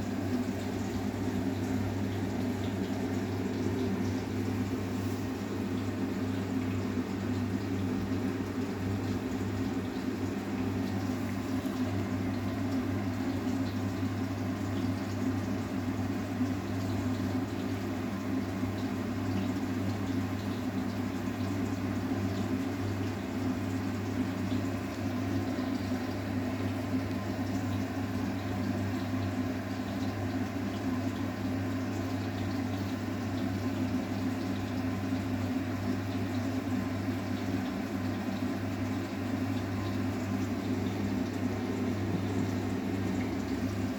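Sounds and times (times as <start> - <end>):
washing machine hum: 0.0 - 43.9
water rushing into washing machine: 0.0 - 43.9.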